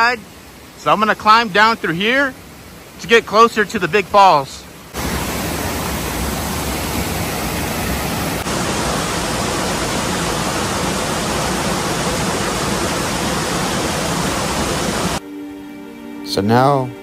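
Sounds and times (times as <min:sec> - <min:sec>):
creek rushing over rocks: 0:00.0 - 0:15.2.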